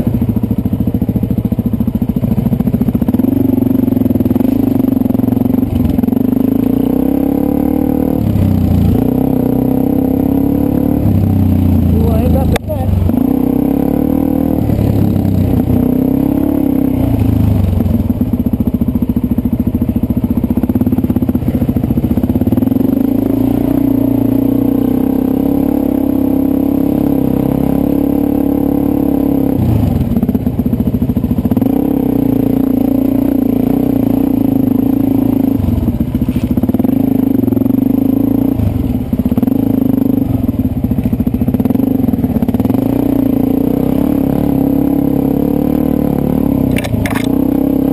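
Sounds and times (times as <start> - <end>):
dirt bike engine revving: 2.9 - 18.1, 20.7 - 30.4, 31.4 - 40.8, 41.5 - 47.9.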